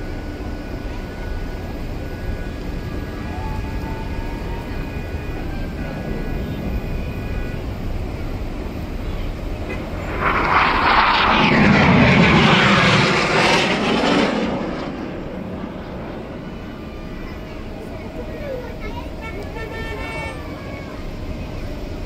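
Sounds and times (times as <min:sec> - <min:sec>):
aircraft flying overhead: 0:00.0 - 0:22.0.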